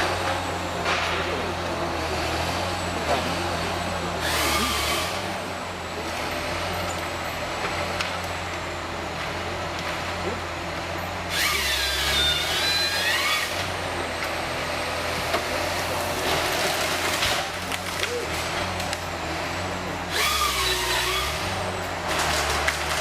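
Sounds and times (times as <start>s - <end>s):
heavy machinery engine hum: 0.0s - 23.0s.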